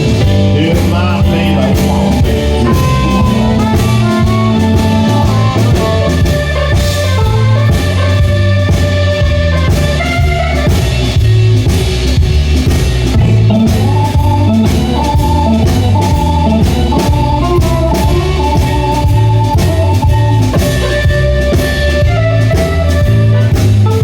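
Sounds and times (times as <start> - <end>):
blues-rock band playing: 0.0 - 24.0
lead instrument melody: 0.0 - 24.0.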